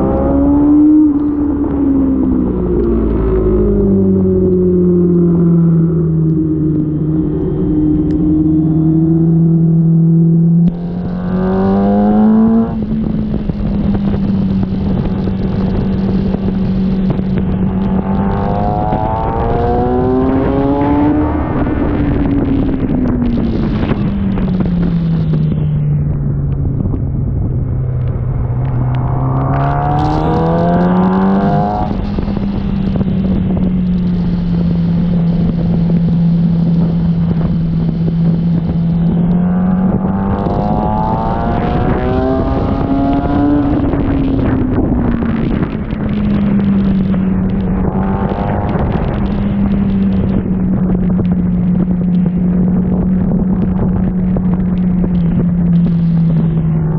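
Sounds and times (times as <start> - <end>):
motorcycle engine running hard: 0.0 - 56.9
wind rushing over microphone: 0.0 - 56.9.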